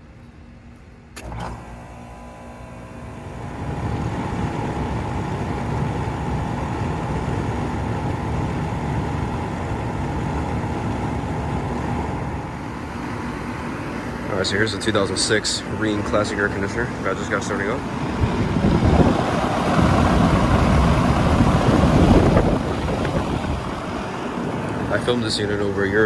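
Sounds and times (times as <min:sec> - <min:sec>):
air conditioner humming drone: 0:00.0 - 0:26.0.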